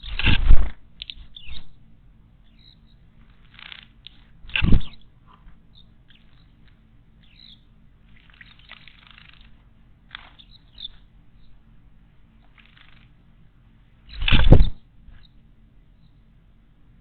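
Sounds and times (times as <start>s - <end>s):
birds chirping: 0.8s - 17.0s.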